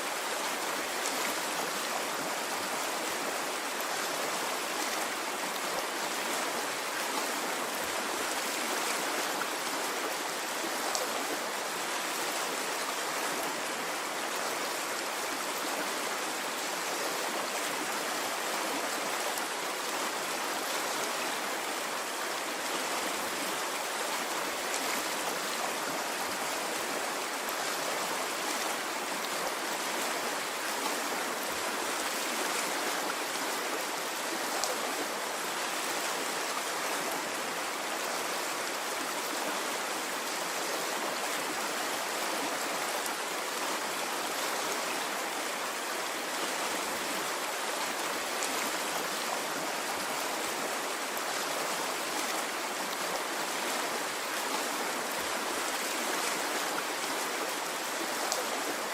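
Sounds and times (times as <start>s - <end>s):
stream of water flowing: 0.0s - 58.9s.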